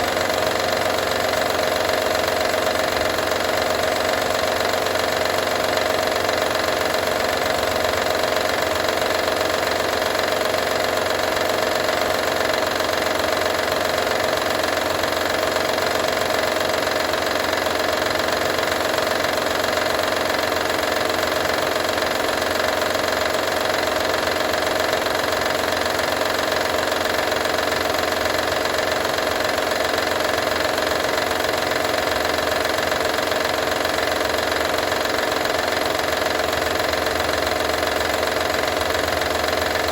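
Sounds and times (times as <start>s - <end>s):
car engine idling: 0.0s - 39.9s
engine rattle: 0.0s - 39.9s.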